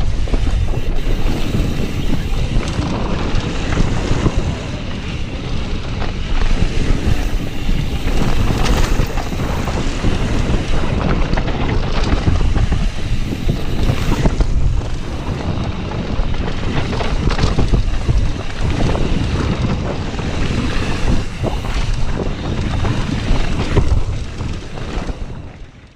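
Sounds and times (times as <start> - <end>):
tyres rumbling on dirt: 0.0 - 25.3
wind buffeting microphone: 0.0 - 25.9.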